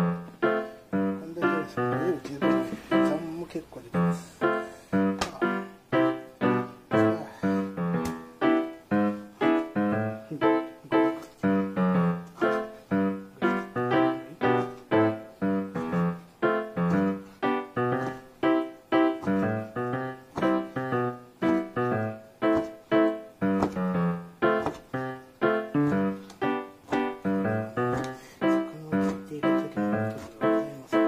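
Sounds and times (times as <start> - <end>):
piano-like keyboard notes: 0.0 - 31.0.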